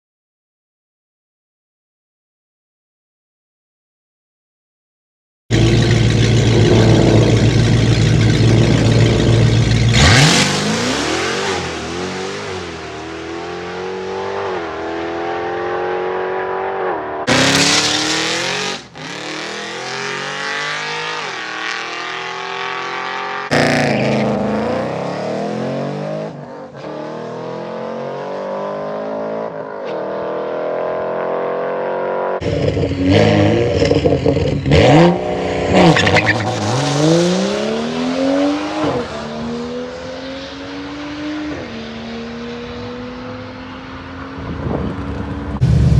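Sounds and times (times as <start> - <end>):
drag racing car accelerating: 5.5 - 45.9.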